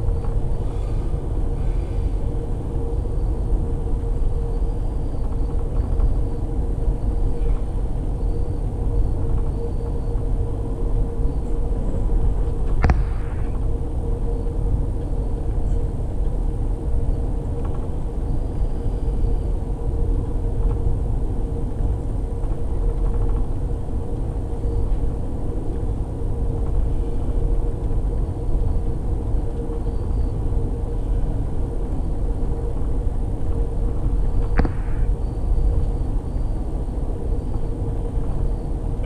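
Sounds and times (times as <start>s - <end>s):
constant hum: 0.0s - 39.0s
train rumbling inside car: 0.0s - 39.0s.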